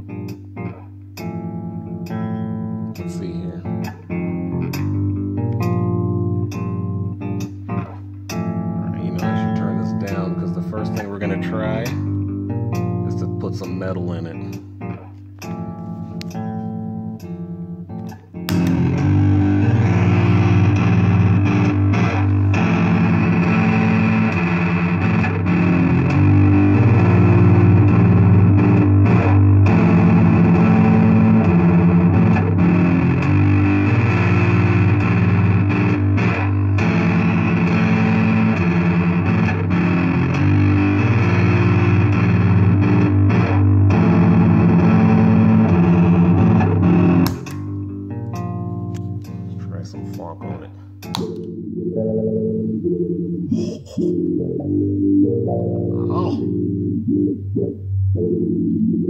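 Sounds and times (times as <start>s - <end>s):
distorted electric bass chords: 0.0s - 59.0s.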